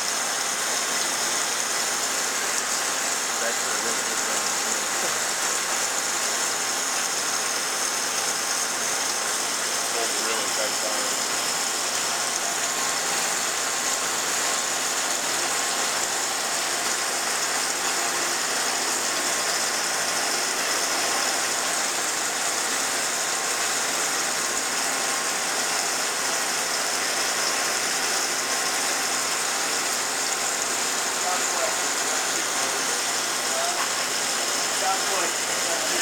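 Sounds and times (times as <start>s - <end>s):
lathe running with hum and hiss: 0.0s - 36.0s.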